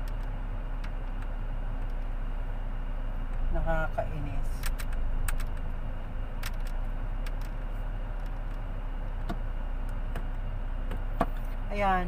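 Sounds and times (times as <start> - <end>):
car engine running low: 0.0 - 12.0.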